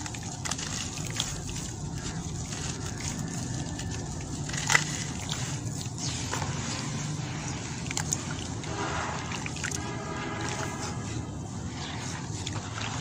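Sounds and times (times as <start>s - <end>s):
water sloshing: 0.0s - 13.0s.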